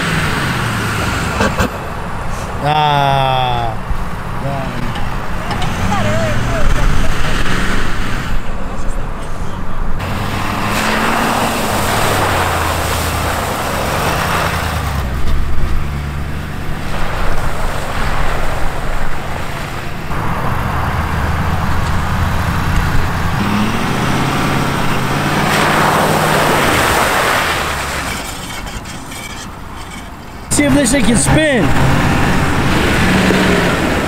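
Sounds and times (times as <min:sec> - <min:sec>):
rushing noise of driving in mud: 0:00.0 - 0:34.0
truck engine revving: 0:00.0 - 0:34.0.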